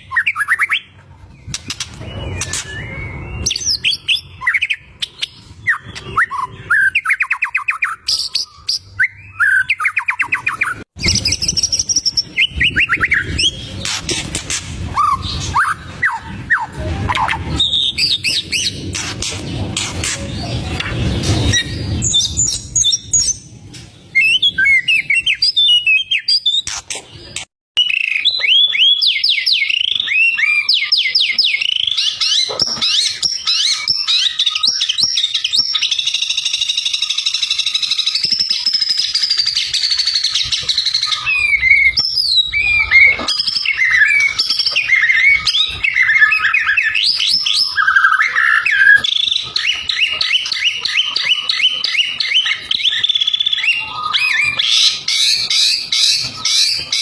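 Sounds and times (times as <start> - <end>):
bird singing whistles and trills: 1.5 - 20.8, 24.2 - 57.0.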